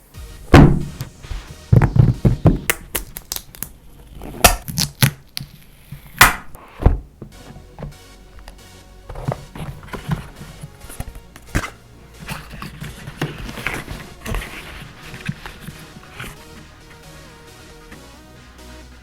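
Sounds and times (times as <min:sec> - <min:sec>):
packaging scraping: 0:00.0 - 0:17.1
packaging knocks and rustles: 0:00.5 - 0:17.0.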